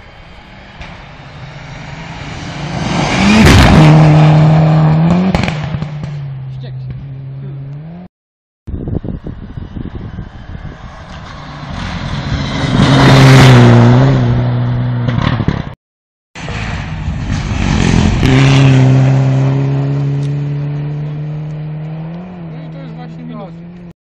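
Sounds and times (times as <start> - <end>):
rally car passing at high revs: 0.2 - 8.1, 9.6 - 15.7, 16.5 - 23.9.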